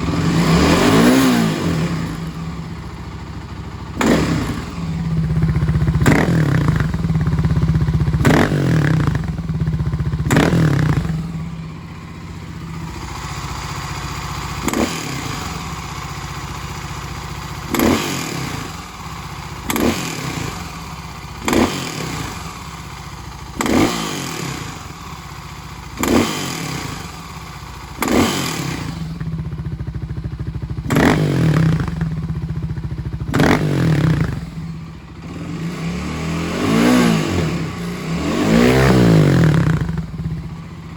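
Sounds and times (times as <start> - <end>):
motorcycle engine revving and idling: 0.0 - 40.9.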